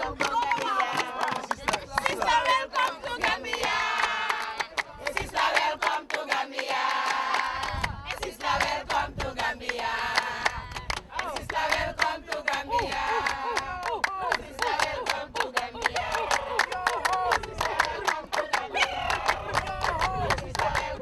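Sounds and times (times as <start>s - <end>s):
hands clapping: 0.0s - 8.8s, 9.6s - 21.0s
group singing and chanting: 0.0s - 21.0s.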